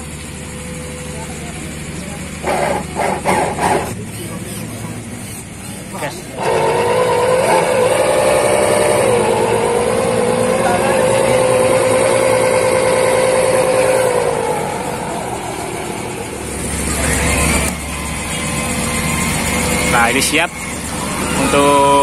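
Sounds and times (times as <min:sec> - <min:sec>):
electric propeller motor whine: 0:00.0 - 0:22.0
noisier sound: 0:00.0 - 0:22.0.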